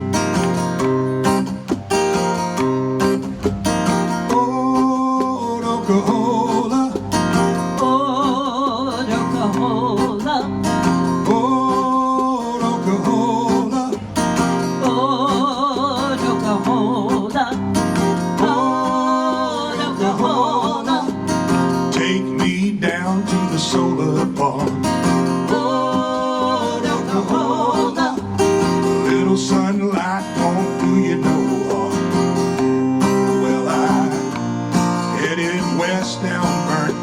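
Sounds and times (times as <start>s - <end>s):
strummed acoustic guitar: 0.0s - 37.0s.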